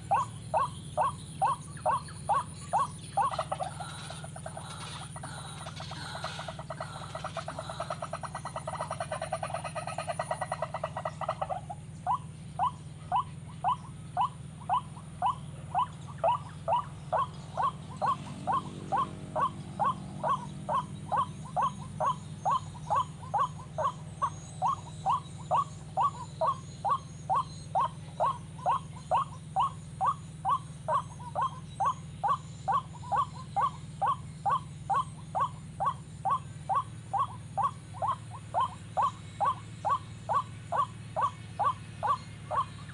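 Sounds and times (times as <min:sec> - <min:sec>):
bird rapid chatter: 0:00.0 - 0:42.9
waterhen calls: 0:00.0 - 0:42.9.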